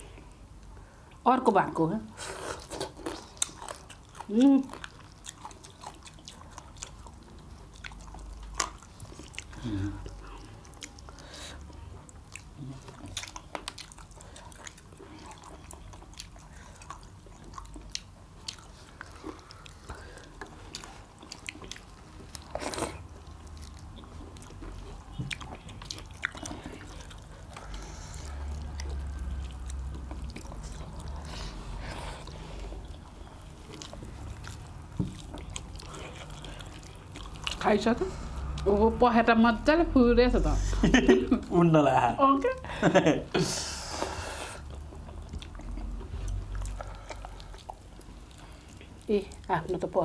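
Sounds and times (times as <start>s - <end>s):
wet chewing mouth sounds: 2.1s - 39.3s, 43.4s - 50.0s.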